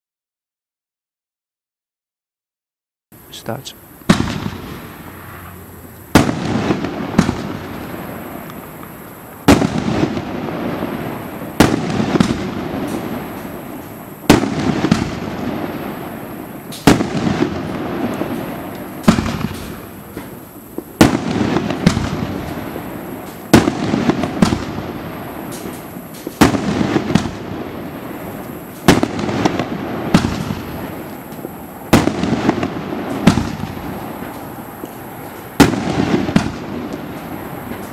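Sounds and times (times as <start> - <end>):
firework crackling: 3.3 - 37.9
firework bangs: 3.4 - 37.9.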